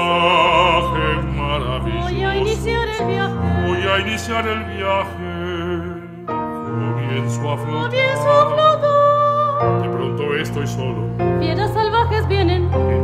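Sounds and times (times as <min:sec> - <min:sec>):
chamber music: 0:00.0 - 0:13.0
operatic voice singing: 0:00.0 - 0:13.0.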